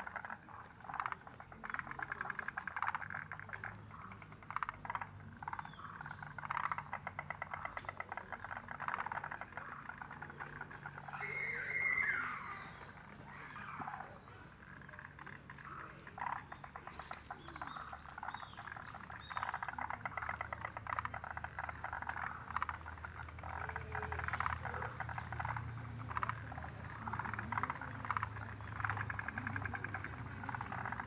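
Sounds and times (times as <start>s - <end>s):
frogs calling in trills: 0.0s - 31.0s.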